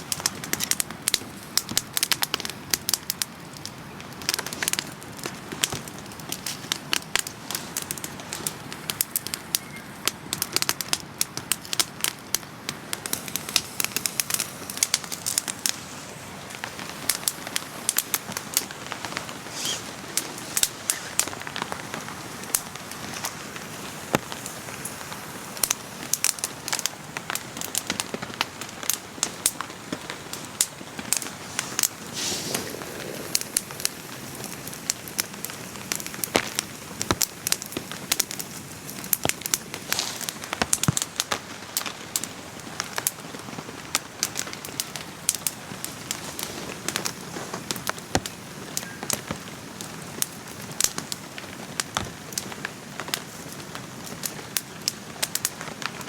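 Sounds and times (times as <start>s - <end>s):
campfire crackling and popping: 0.0s - 56.0s
rain falling: 0.0s - 56.0s.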